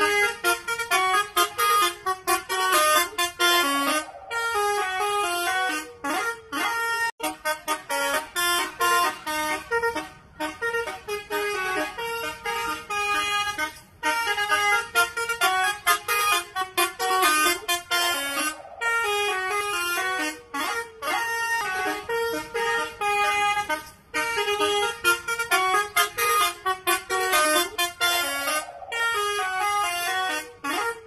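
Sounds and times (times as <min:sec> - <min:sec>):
musical truck air horns: 0:00.0 - 0:31.0.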